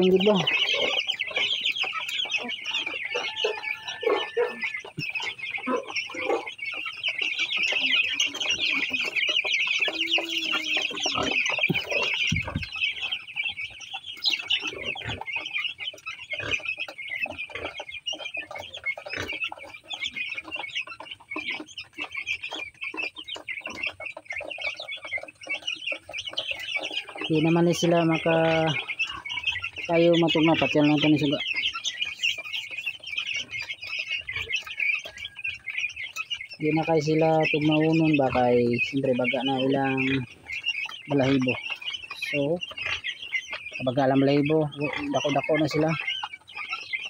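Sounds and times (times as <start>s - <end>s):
chicks peeping: 0.0s - 47.0s.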